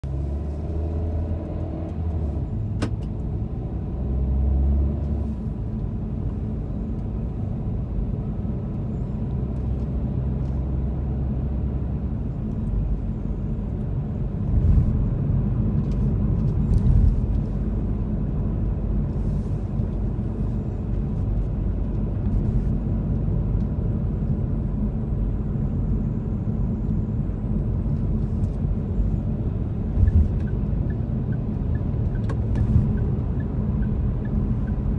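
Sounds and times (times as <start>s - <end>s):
car engine and tyre rumble: 0.0s - 34.9s.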